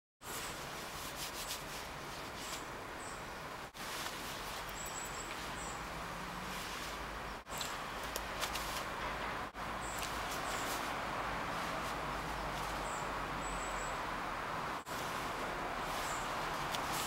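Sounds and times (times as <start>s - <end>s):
outdoor background hiss: 0.2s - 17.0s
small birds chirping: 1.3s - 17.0s.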